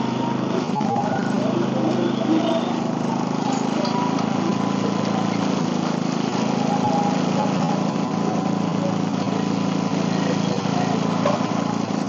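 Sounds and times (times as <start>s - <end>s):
garden tractor engine running: 0.0s - 12.0s.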